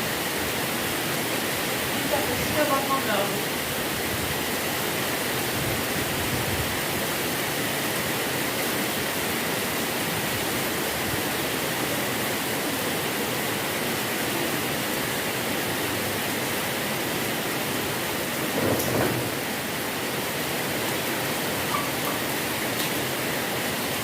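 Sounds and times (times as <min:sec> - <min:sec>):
rain pouring: 0:00.0 - 0:24.0.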